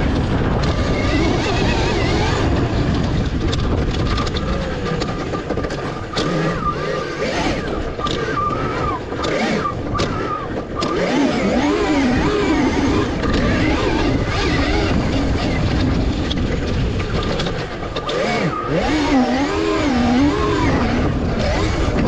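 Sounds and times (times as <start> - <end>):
electric motor whining: 0.0 - 22.0
wind noise: 0.0 - 22.0.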